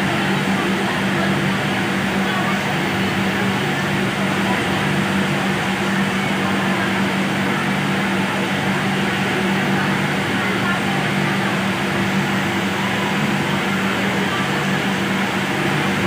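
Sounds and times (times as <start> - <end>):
industrial sewing machines running: 0.0 - 16.0.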